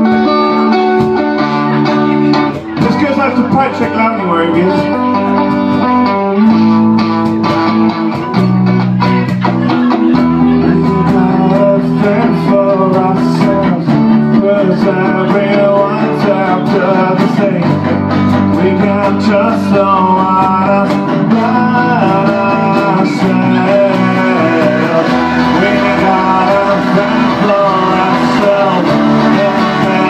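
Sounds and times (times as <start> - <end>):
bass line: 0.0 - 30.0
live band guitar song: 0.0 - 30.0.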